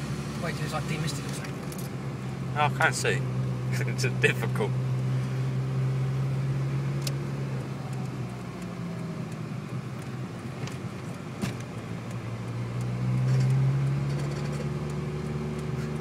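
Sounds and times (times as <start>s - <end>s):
car engine hum from inside cabin: 0.0s - 16.0s.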